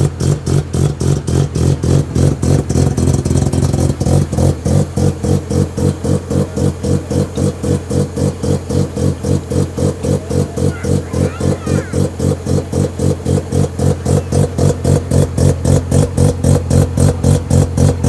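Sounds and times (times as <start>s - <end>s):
rotary engine idling choppily: 0.0s - 18.0s.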